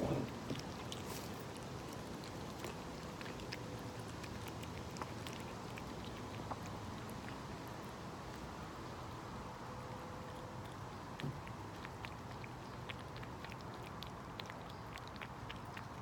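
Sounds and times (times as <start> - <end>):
cats crunching food: 0.0 - 16.0.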